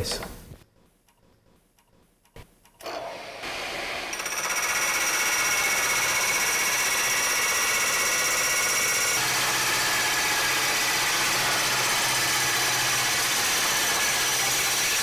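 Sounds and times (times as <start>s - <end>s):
hole saw cutting metal tube: 2.8s - 15.0s.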